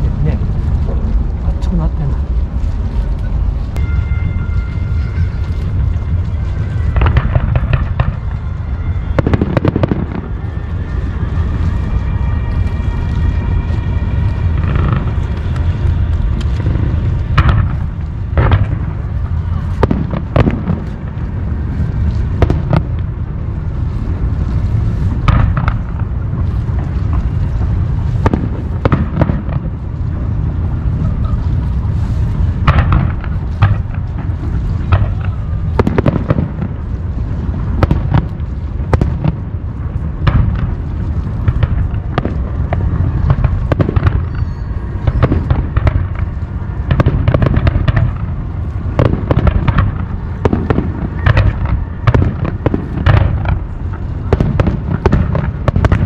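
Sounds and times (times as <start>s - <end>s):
fireworks bangs: 0.0s - 56.0s
low rumble of fireworks: 0.0s - 56.0s.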